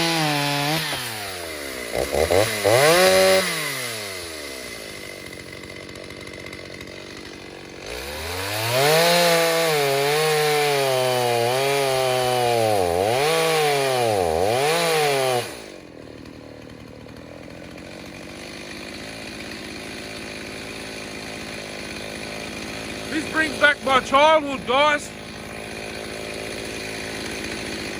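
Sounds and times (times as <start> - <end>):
chainsaw idling and revving: 0.0 - 27.9.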